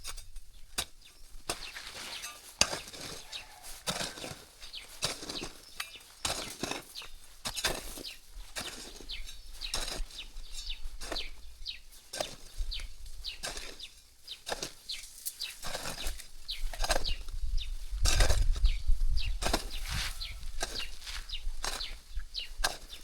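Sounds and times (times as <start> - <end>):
hoe striking and scraping soil: 0.0 - 23.0
small birds chirping: 0.5 - 23.0.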